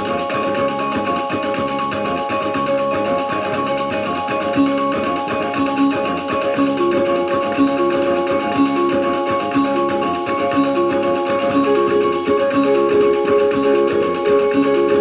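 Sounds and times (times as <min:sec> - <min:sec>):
gong-chime music: 0:00.0 - 0:15.0.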